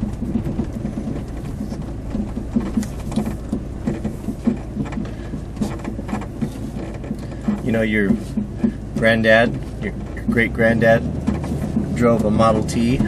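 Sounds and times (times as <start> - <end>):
low thumps: 0.0 - 13.0
truck engine drone: 0.0 - 13.0.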